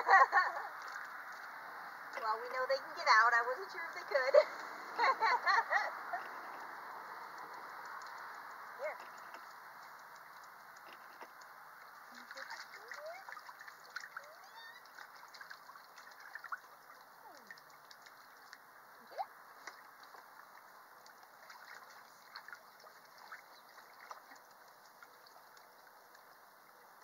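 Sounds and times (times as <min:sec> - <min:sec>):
water splashing in kiddie pool: 0:00.0 - 0:27.0.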